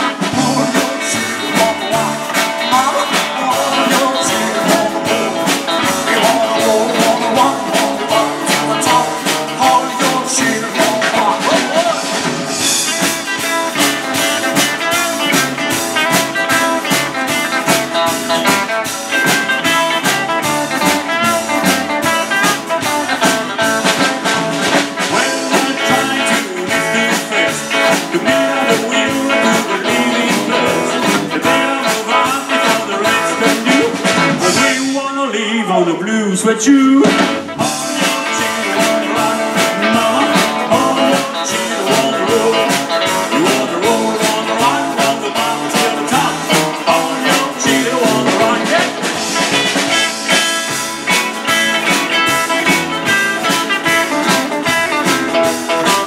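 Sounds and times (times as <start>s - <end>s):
live blues rock band playing: 0.0s - 56.0s.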